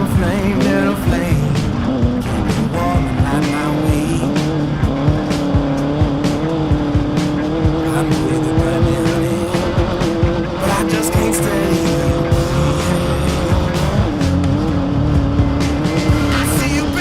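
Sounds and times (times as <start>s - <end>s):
engine running at high revs: 0.0s - 17.0s
music with steady beat: 0.0s - 17.0s.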